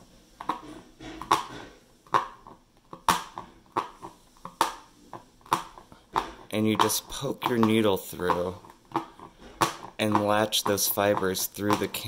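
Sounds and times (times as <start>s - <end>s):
felting needle popping through canvas: 0.0s - 12.0s.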